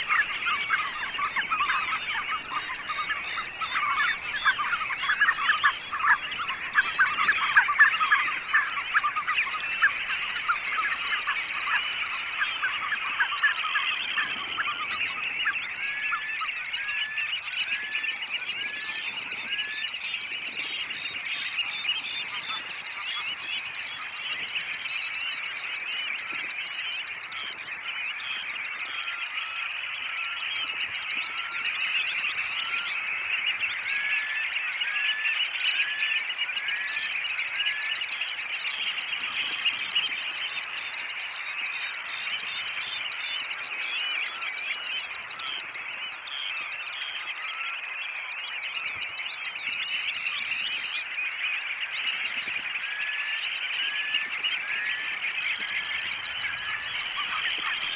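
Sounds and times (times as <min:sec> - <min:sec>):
chorus of birds calling: 0:00.0 - 0:57.9.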